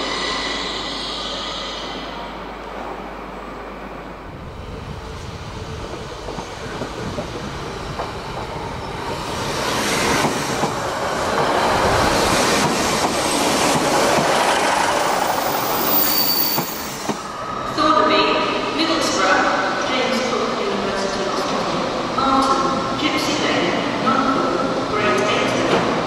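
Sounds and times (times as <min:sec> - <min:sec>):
train running along track: 0:00.0 - 0:26.0.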